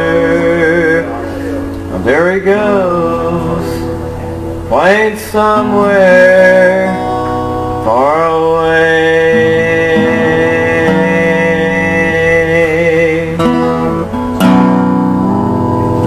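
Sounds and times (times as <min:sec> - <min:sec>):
man singing: 0:00.0 - 0:14.2
acoustic guitar: 0:00.0 - 0:16.0.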